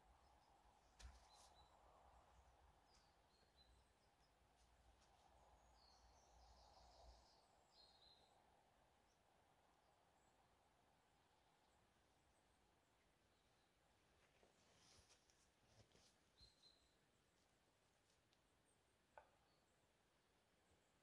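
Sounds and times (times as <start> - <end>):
faint birdsong chirps and trill: 0.0 - 21.0.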